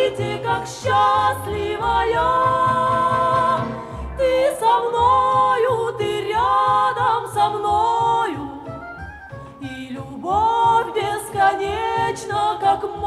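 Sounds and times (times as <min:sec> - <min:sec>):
low bass: 0:00.0 - 0:13.0.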